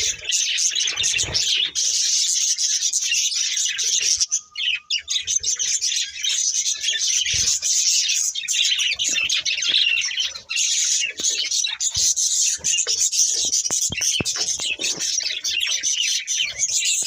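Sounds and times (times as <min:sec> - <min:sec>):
budgerigars chattering: 0:00.0 - 0:17.0.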